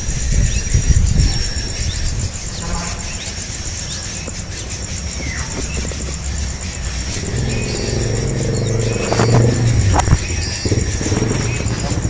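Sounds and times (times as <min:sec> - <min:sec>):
bird chirps: 0:00.0 - 0:12.0
pulsing high insect trill: 0:00.0 - 0:12.0.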